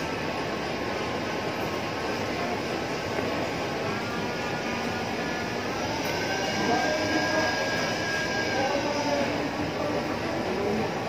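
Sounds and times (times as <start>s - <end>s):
shopping mall background din: 0.0s - 11.0s.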